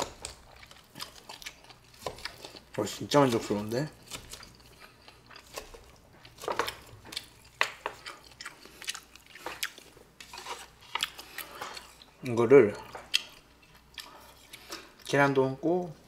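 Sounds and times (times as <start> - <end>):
wet chewing sounds: 0.0 - 15.1.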